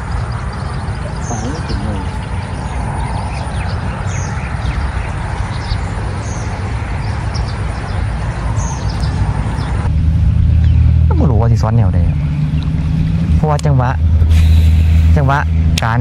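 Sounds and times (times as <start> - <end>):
bird chirping: 0.0 - 16.0
wind noise on microphone: 0.0 - 16.0.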